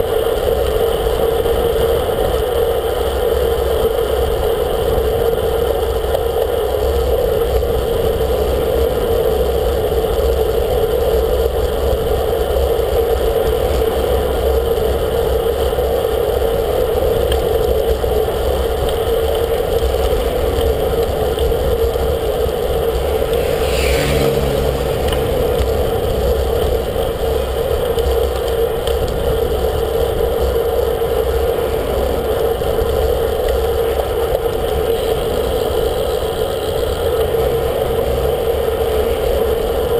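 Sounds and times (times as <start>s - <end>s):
bicycle tyre road noise: 0.0s - 39.9s
constant drone: 0.0s - 39.9s
wind rush: 6.0s - 39.9s.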